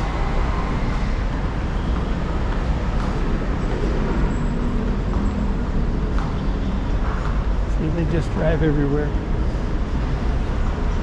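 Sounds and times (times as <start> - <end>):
busy road traffic rumble: 0.0 - 11.0.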